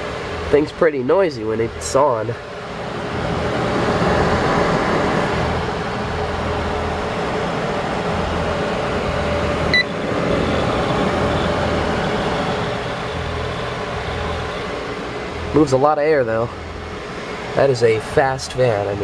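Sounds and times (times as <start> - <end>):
server cooling fans rushing: 0.0 - 19.0.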